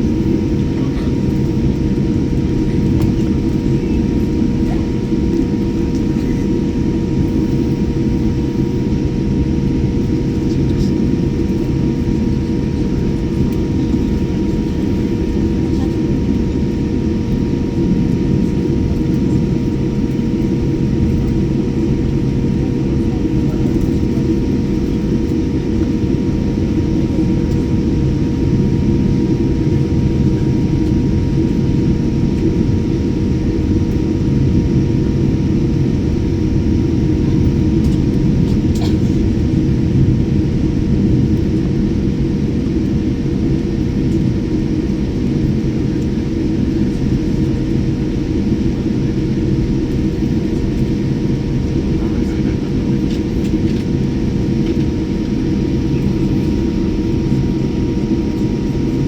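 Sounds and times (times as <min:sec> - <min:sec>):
constant whine: 0:00.0 - 0:59.0.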